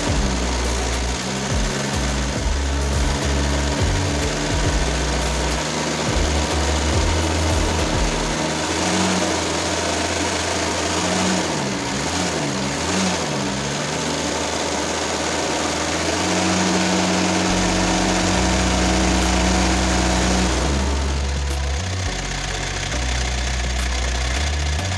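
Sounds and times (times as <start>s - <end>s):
diesel engine revving and idling: 0.0s - 24.9s.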